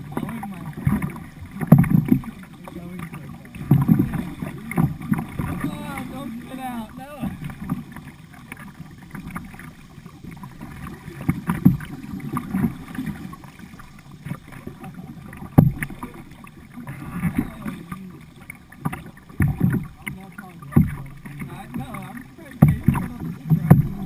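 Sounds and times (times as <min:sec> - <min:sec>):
water splashing from paddling: 0:00.0 - 0:24.0.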